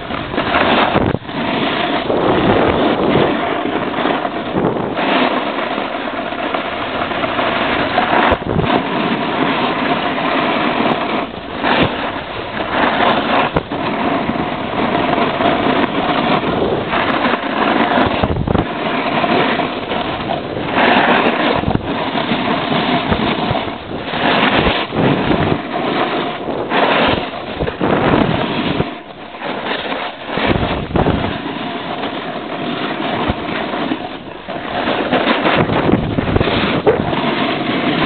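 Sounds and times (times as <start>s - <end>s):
snowboard hissing and scraping on snow: 0.0s - 38.0s
wind buffeting microphone: 0.0s - 38.0s.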